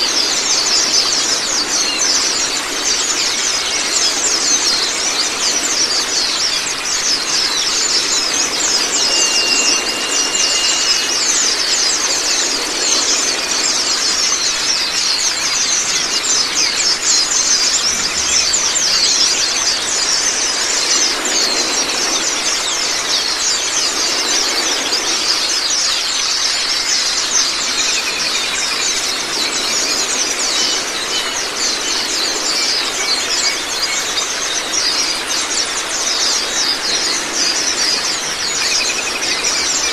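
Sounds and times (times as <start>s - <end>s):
running water: 0.0s - 39.9s
small birds twittering: 0.0s - 39.9s.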